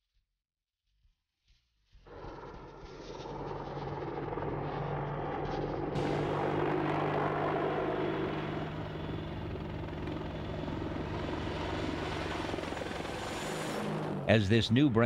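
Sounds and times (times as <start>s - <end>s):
helicopter rotor beating: 2.1s - 15.0s.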